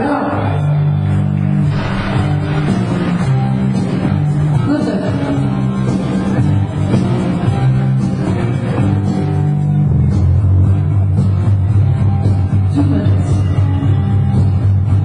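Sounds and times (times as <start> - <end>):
rock band playing live: 1.6 - 15.0.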